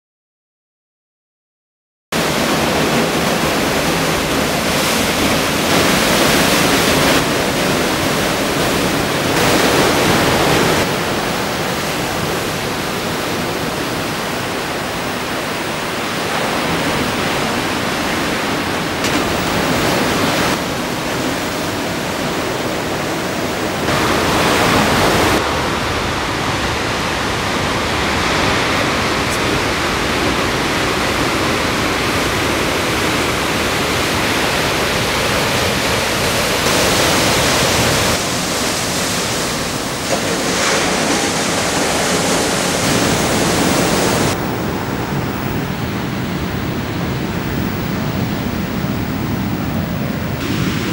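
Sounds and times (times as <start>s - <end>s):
large waves breaking: 2.2s - 50.9s.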